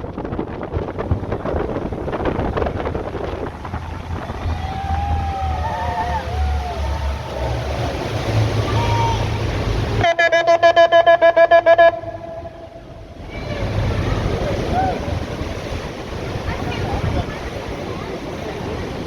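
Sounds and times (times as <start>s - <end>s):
wind buffeting microphone: 0.0s - 10.0s, 11.8s - 19.0s
boat engine rumbling: 0.0s - 19.0s
splashing water: 0.0s - 19.0s.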